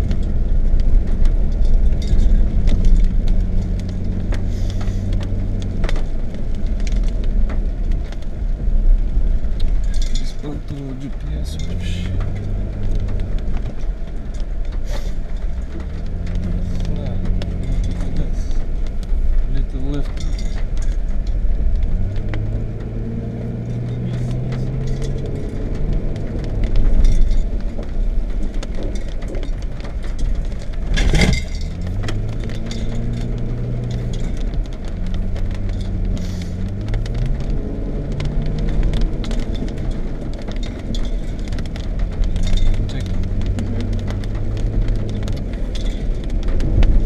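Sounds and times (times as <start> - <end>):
car engine running: 0.0 - 47.0
small clicks and rattles: 0.0 - 47.0.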